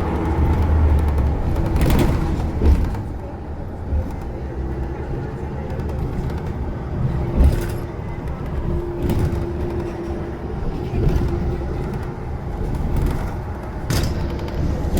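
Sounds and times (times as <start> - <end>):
passing vehicles rumbling: 0.0 - 14.9.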